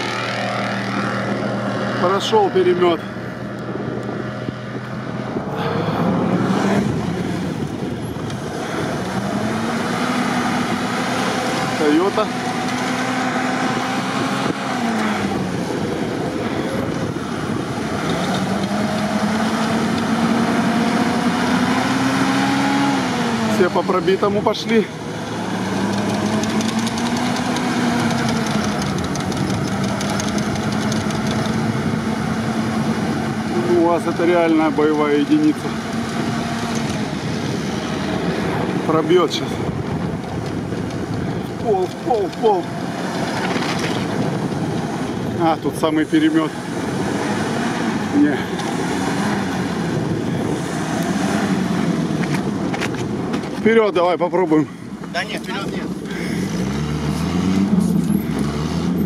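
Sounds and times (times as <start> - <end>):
engine revving under load: 0.0 - 59.0
wind noise on microphone: 3.1 - 23.5, 25.0 - 33.7, 35.6 - 53.7.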